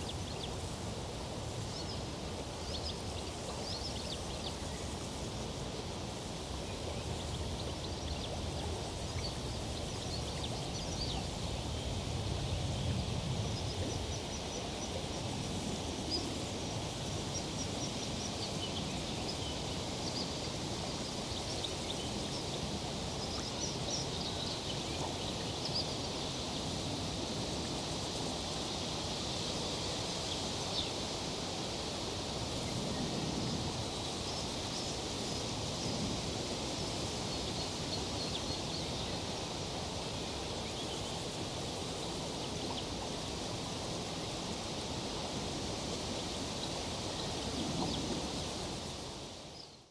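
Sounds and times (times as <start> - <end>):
tree foliage rustling in breeze: 0.0 - 49.9.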